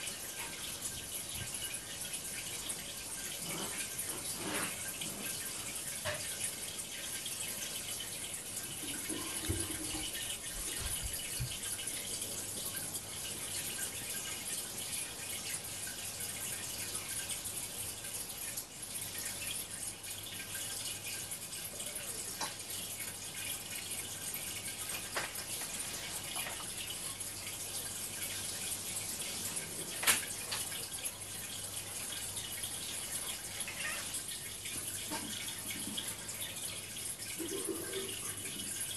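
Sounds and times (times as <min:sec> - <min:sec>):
aquarium water trickling: 0:00.0 - 0:38.9.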